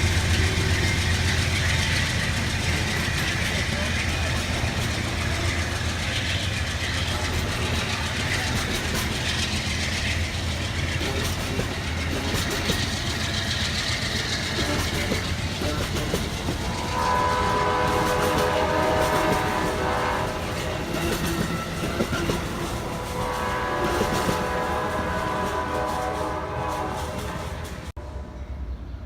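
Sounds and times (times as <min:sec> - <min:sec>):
rail cars clicking over track: 0:00.0 - 0:27.9
train horn: 0:02.8 - 0:10.1, 0:11.2 - 0:28.4.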